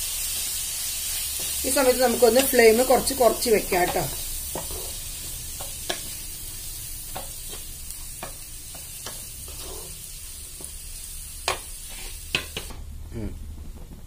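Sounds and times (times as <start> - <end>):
food sizzling in oil: 0.0 - 12.8.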